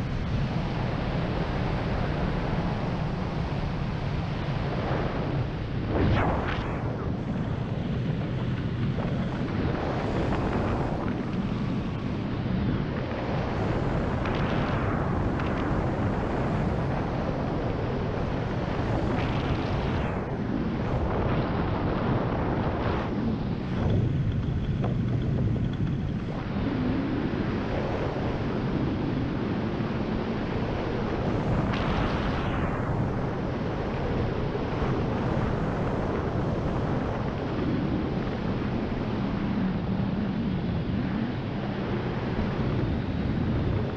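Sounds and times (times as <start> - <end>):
wind rushing past microphone: 0.0 - 43.9.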